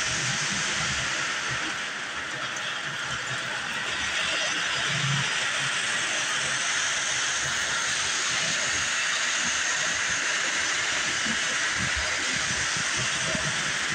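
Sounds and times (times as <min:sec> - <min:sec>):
toy trains rolling on metal rails: 0:00.0 - 0:13.9.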